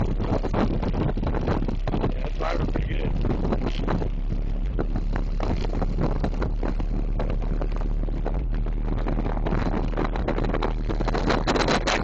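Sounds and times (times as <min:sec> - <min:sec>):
rattles and crackles: 0:00.0 - 0:12.0
subwoofers playing deep bass: 0:00.0 - 0:12.0.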